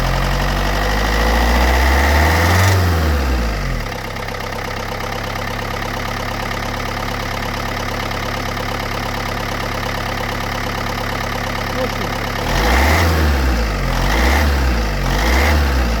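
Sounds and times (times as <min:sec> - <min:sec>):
diesel engine idling and revving: 0:00.0 - 0:16.0.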